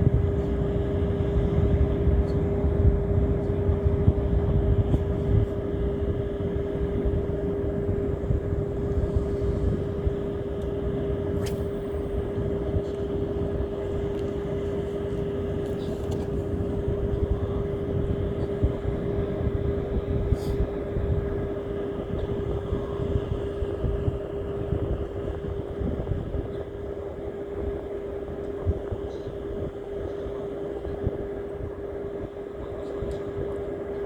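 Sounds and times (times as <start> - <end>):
mechanical drone: 0.0 - 29.5
wind on microphone: 0.0 - 34.0.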